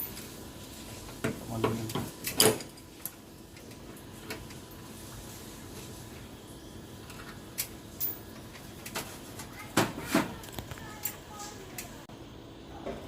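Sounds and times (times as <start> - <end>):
faint background hum: 0.0 - 13.0.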